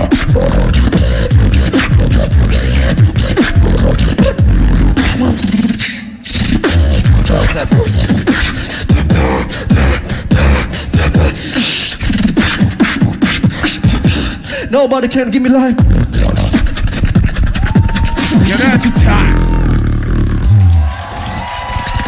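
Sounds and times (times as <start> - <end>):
person beatboxing into a microphone: 0.0 - 22.0.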